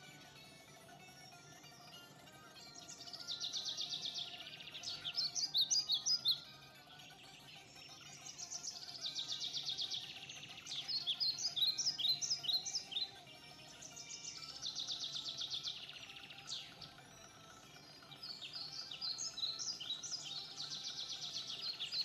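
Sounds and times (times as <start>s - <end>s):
songbird trilling and chirping: 1.8s - 22.0s.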